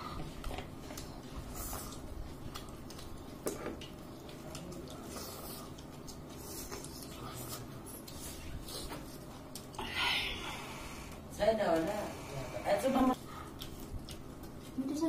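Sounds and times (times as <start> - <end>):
quiet chewing: 0.0 - 15.0.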